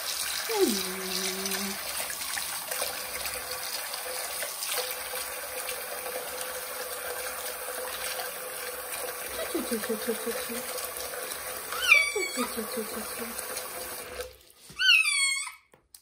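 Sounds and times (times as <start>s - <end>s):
tap water running into sink: 0.0s - 14.4s.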